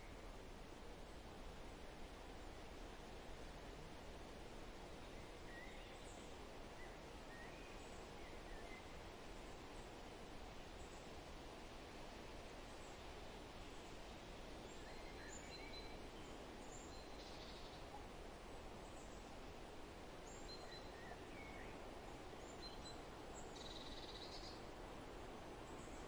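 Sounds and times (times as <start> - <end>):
low hiss: 0.0 - 26.0.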